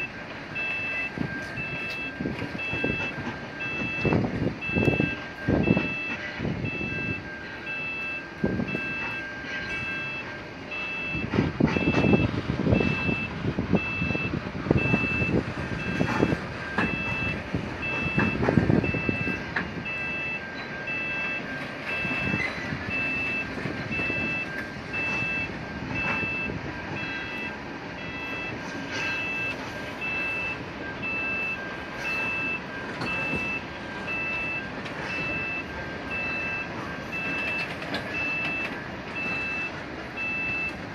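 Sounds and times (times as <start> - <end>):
level crossing bell beeping: 0.0 - 40.9
train rumbling and knocking: 0.0 - 40.9.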